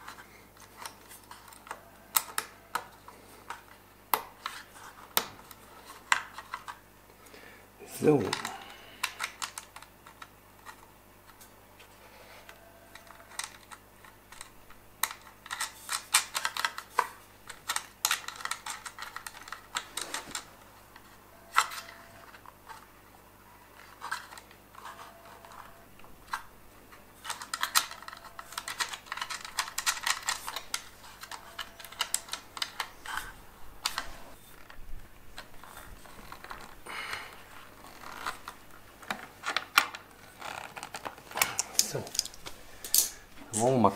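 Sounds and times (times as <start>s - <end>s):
small clicks and rattles of parts: 0.0s - 7.4s, 8.0s - 11.5s, 12.3s - 43.7s.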